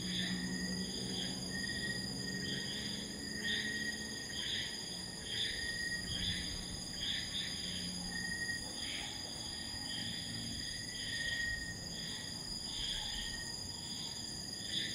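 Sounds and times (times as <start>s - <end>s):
crickets trilling: 0.0s - 14.9s
pulsing insect call: 0.0s - 14.9s.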